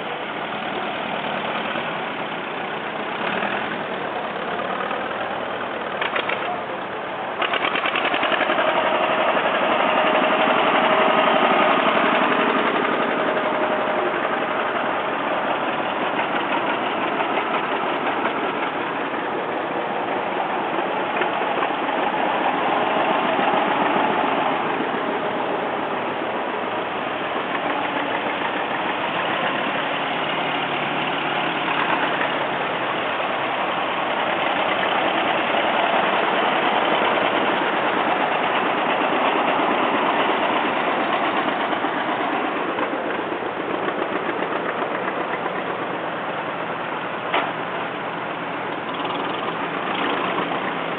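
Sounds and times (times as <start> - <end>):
tractor engines running: 0.0 - 50.9.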